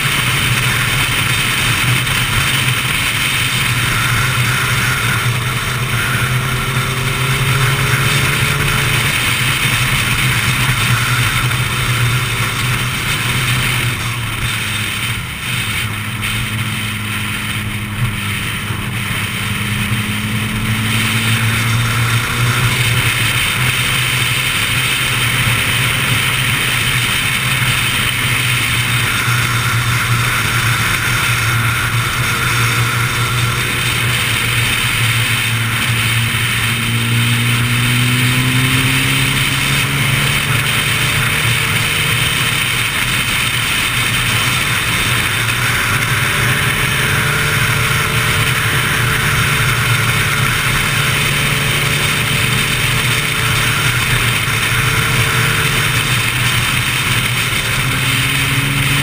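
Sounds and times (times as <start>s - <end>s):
motorcycle engine at speed: 0.0s - 59.0s
wind and road noise: 0.0s - 59.0s.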